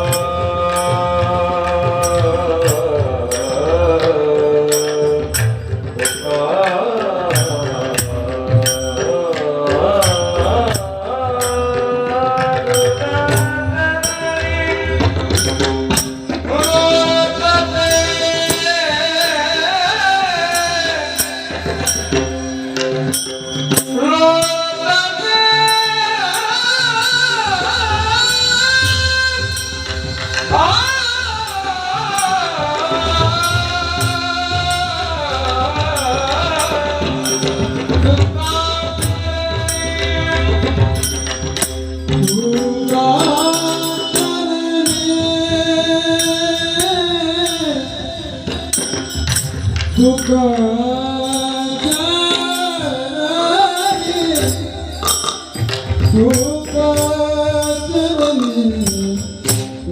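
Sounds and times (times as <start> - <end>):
person singing devotional melody: 0.0 - 59.9
rhythmic percussion: 0.0 - 59.9.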